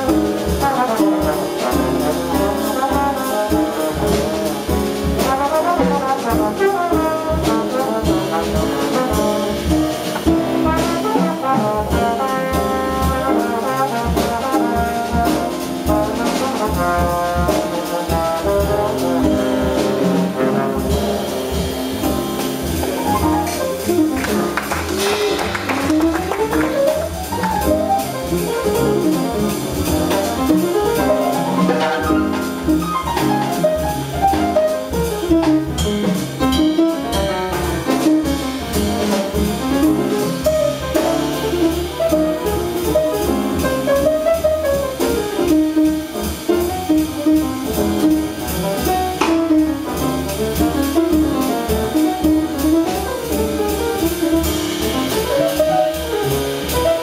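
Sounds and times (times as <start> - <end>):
drum kit: 0.0 - 57.0
piano: 0.0 - 57.0
trombone: 0.0 - 57.0
upright bass: 0.0 - 57.0.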